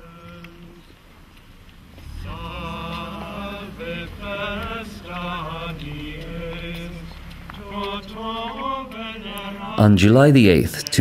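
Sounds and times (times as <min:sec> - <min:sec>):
person chanting a sung melody: 0:00.0 - 0:01.0, 0:02.1 - 0:11.0.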